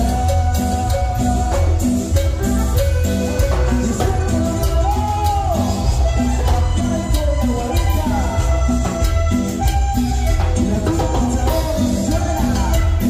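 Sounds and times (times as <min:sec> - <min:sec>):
latin dance band playing: 0:00.0 - 0:13.0.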